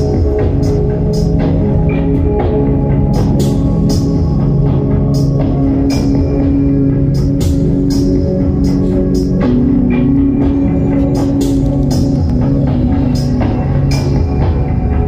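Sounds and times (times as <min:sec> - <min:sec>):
steady drum beat: 0:00.0 - 0:15.0
sustained chords: 0:00.0 - 0:15.0.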